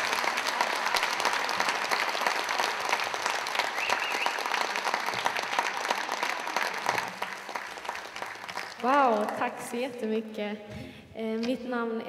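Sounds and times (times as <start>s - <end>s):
audience clapping: 0.0s - 10.0s.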